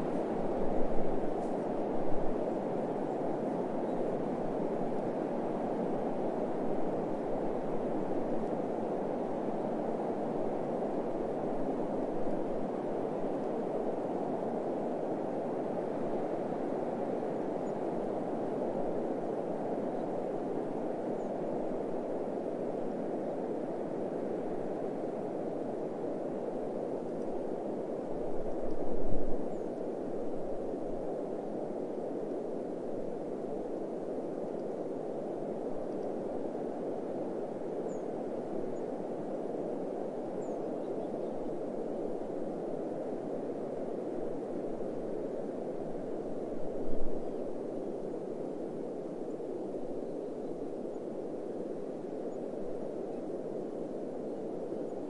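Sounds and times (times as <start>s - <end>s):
wind blowing: 0.0s - 55.0s.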